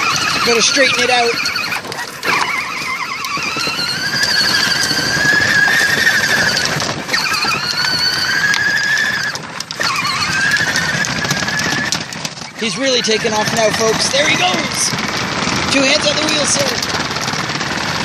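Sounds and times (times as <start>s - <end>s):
toy electric motor whining: 0.0s - 18.0s.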